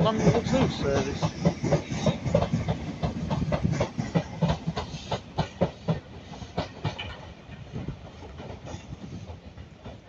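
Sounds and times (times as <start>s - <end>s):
low train rumble: 0.0s - 10.0s
train wheels clattering over joints: 0.0s - 10.0s.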